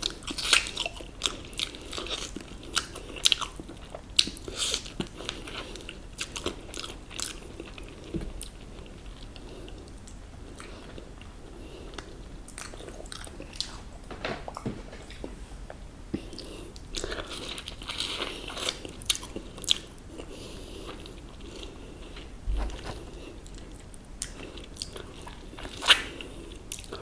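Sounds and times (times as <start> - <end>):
chewing: 0.0 - 27.0.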